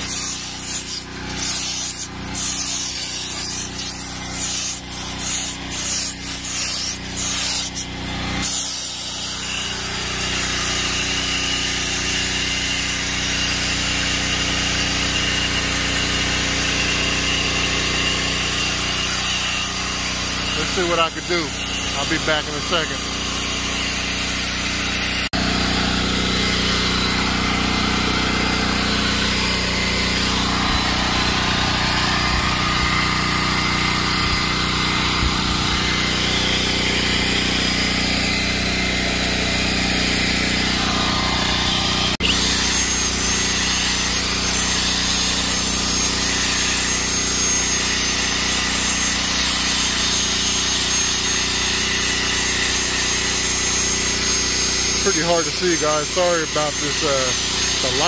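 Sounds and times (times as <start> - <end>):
drill scrub brush on fabric: 0.0 - 58.0
motor hum: 0.0 - 58.0.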